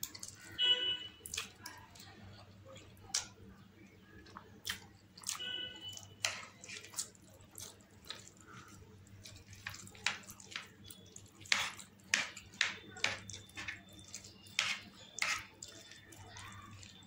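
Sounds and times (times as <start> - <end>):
wet chewing and slurping: 0.0 - 3.4, 4.2 - 17.0.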